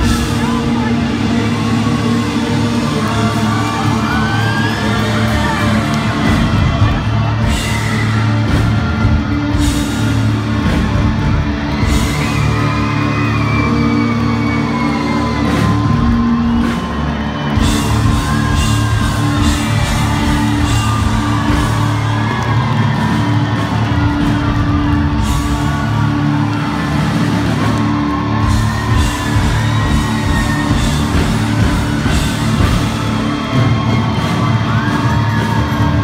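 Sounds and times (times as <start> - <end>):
crowd whooping and yelling: 0.0 - 36.0
hard rock band playing live: 0.0 - 36.0.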